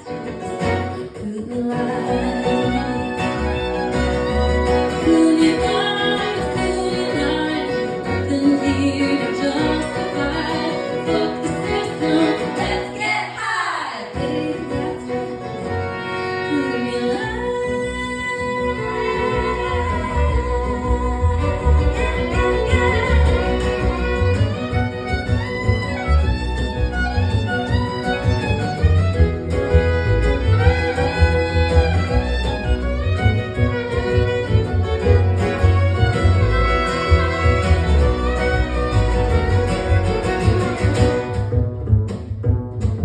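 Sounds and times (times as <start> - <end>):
fiddle melody: 0.0 - 13.2, 14.2 - 42.1
guitar: 0.0 - 43.0
bass line: 2.0 - 13.0, 17.2 - 43.0.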